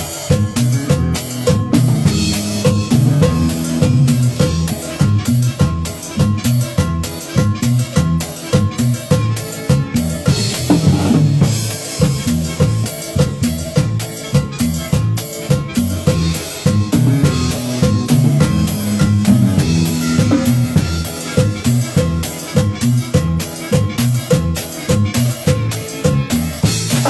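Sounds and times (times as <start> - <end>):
drum kit beat: 0.0 - 27.0
low bass notes: 0.0 - 27.0.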